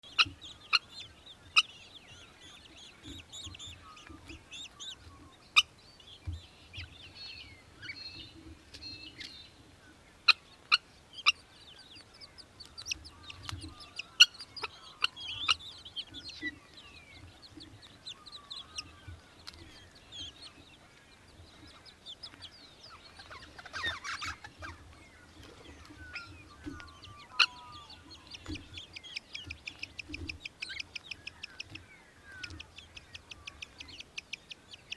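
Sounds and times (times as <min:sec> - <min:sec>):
birds calling and chirping: 0:00.0 - 0:34.9.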